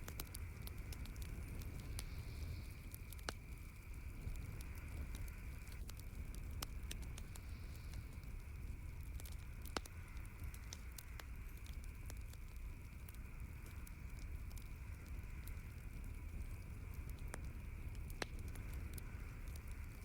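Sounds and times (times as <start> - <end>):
campfire crackling and popping: 0.0 - 20.0
low rumble of burning: 0.0 - 20.0.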